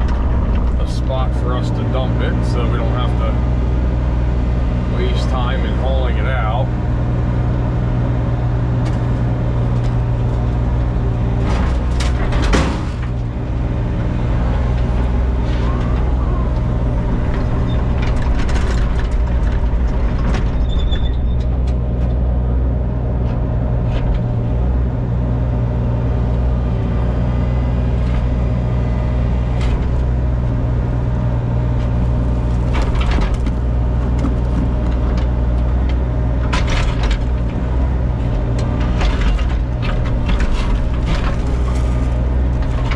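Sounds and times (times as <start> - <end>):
heavy equipment engine running: 0.0 - 42.9.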